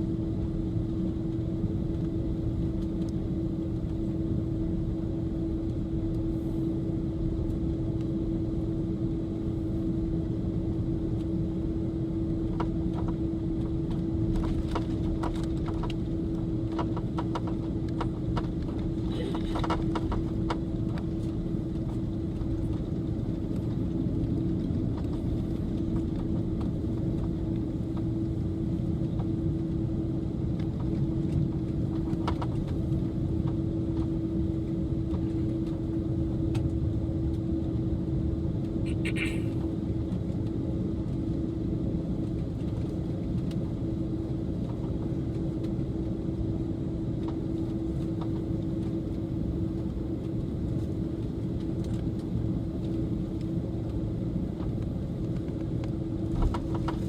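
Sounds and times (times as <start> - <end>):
constant hum: 0.0 - 57.0
idling jet engines rumble: 0.0 - 57.0.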